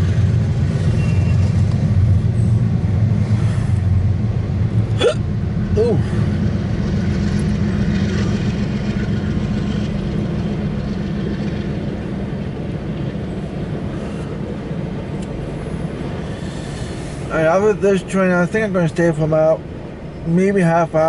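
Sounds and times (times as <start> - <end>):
freight cars rumbling: 0.0 - 21.0.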